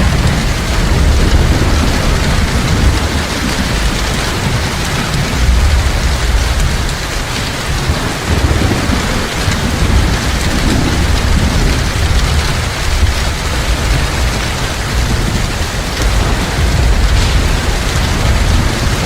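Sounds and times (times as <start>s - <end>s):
heavy rain falling: 0.0s - 19.0s
low rumble of thunder: 0.0s - 19.0s.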